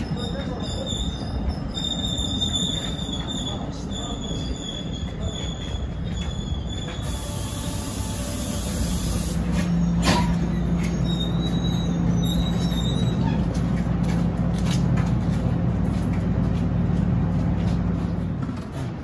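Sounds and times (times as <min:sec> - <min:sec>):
train humming: 0:00.0 - 0:19.0.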